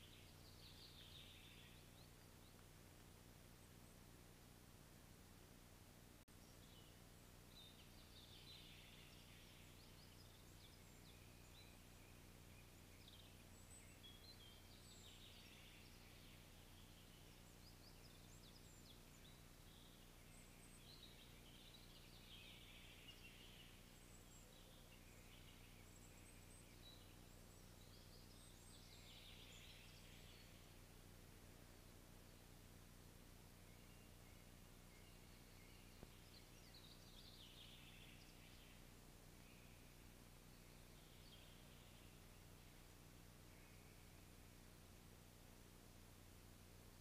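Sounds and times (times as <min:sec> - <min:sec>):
songbird singing faintly: 0:00.0 - 0:47.0.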